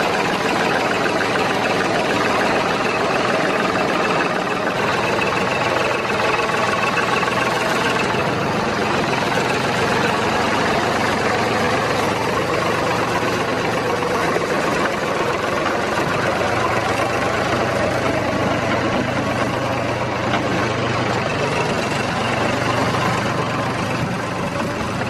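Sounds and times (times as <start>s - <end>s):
heavy vehicle engine droning: 0.0s - 25.0s.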